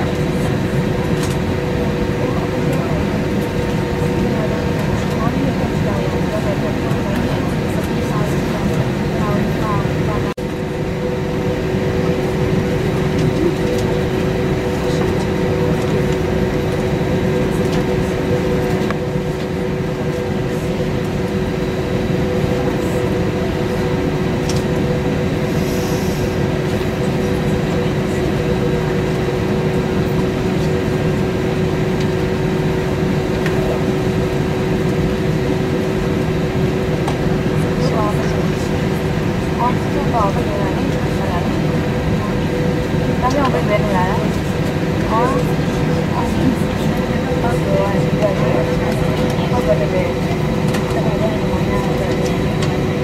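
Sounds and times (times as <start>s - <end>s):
aircraft cabin engine rush: 0.0s - 53.0s
constant hums: 0.0s - 53.0s.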